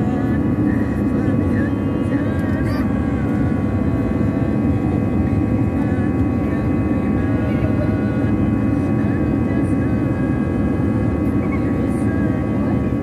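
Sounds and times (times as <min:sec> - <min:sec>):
jet engines and airflow rushing: 0:00.0 - 0:13.0
steady whining tones: 0:00.0 - 0:13.0.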